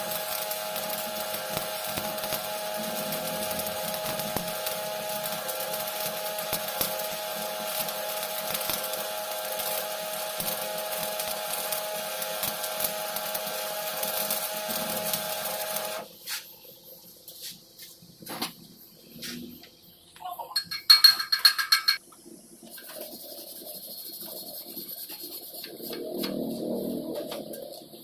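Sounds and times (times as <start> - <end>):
welding arc crackling and sizzling: 0.0 - 19.4, 21.0 - 28.0.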